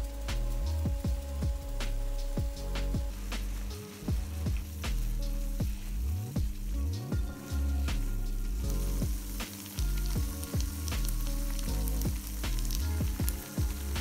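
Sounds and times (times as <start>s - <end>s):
background music with bass line: 0.0s - 14.0s
sauce sizzling in a frying pan: 0.0s - 14.0s
sharp crackles: 0.0s - 14.0s.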